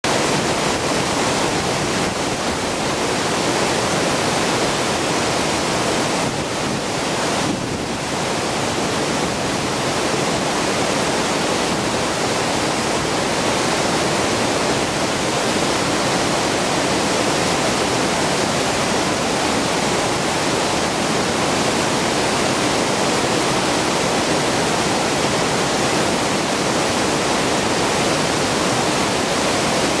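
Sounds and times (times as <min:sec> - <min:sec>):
water rushing over dam spillway: 0:00.0 - 0:30.0.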